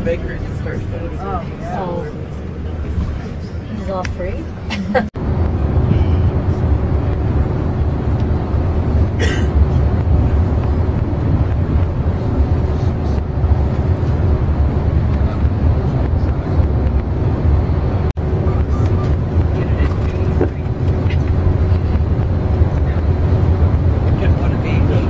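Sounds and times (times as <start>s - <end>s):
bus driving rumble from inside: 0.0s - 25.0s.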